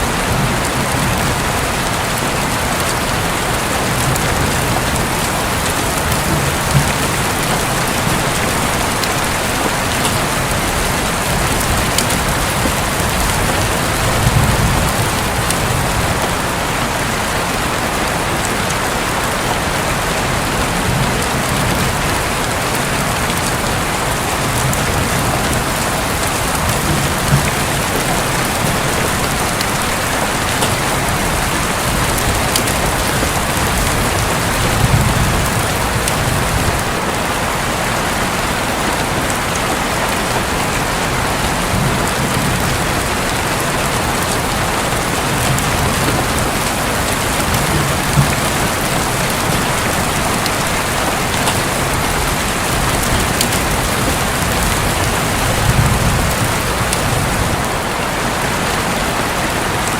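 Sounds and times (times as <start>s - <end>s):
distant thunder rumble: 0.0s - 37.1s, 41.2s - 57.9s
heavy rain on a roof: 0.0s - 59.9s.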